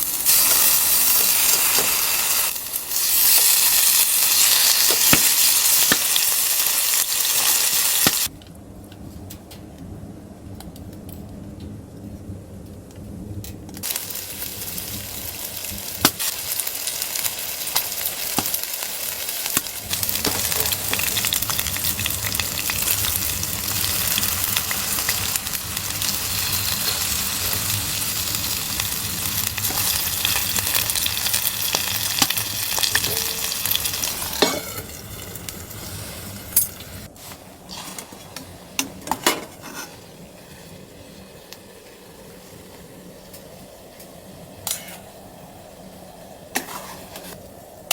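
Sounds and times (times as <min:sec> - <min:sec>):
food sizzling in a pan: 0:00.0 - 0:08.3, 0:13.8 - 0:47.9.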